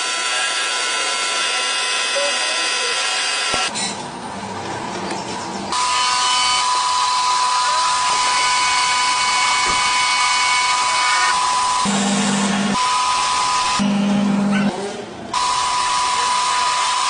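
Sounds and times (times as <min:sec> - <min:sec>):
lathe high-pitched whine: 0:00.0 - 0:03.7, 0:05.7 - 0:14.5, 0:15.3 - 0:17.0.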